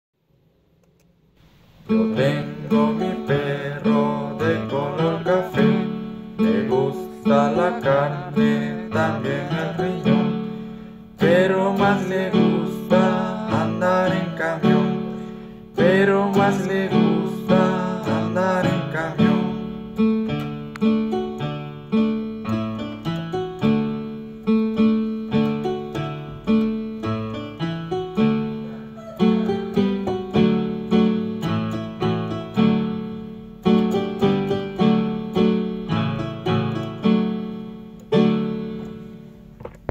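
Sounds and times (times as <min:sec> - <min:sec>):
electronic keyboard playing chords: 0:01.8 - 0:39.9.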